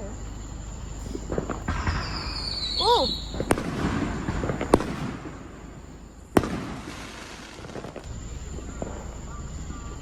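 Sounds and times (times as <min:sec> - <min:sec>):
firework bangs: 0:00.9 - 0:10.0
faint firework pops: 0:01.0 - 0:09.2.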